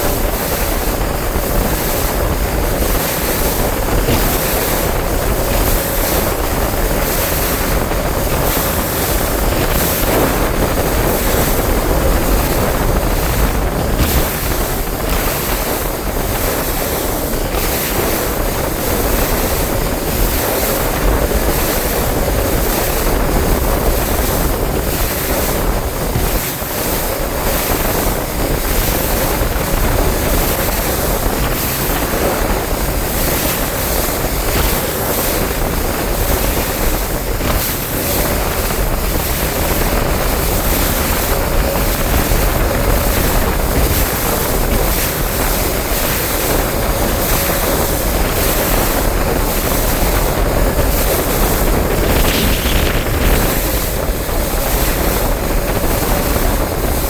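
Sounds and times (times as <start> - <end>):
waves washing against boat: 0.0 - 57.0
wind buffeting microphone: 0.0 - 57.0.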